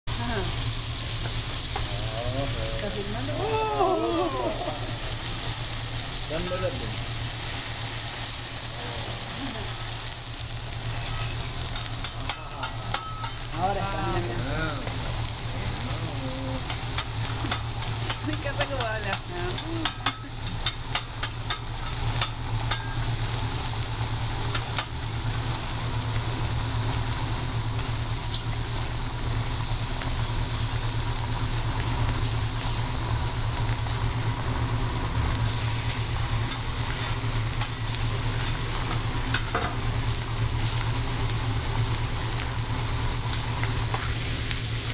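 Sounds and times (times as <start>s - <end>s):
food sizzling on a griddle: 0.1s - 44.9s.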